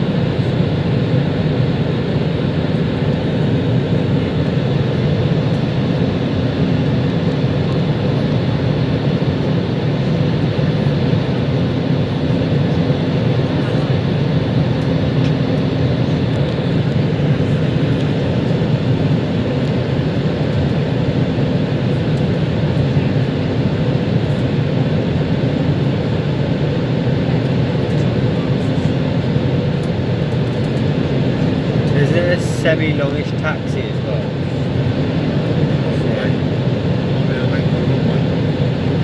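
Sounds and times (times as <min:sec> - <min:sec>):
aircraft cabin drone: 0:00.0 - 0:39.0.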